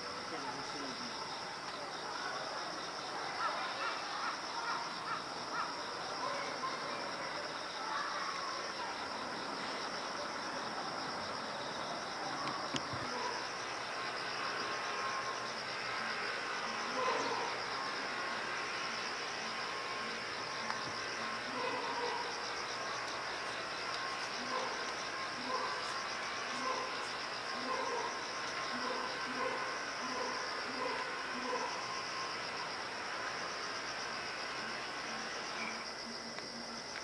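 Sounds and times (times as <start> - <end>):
insects chirping with pulsing trill: 0.0 - 37.0.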